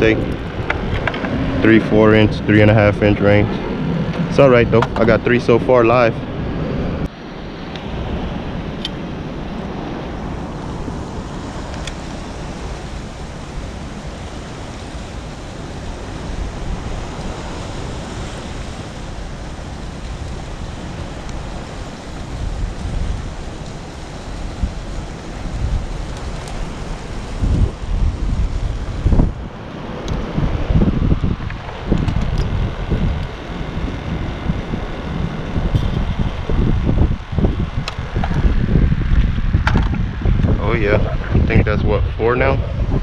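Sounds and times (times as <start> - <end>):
sea noise: 0.0 - 43.0
wind: 0.0 - 43.0
wind buffeting microphone: 0.0 - 43.0.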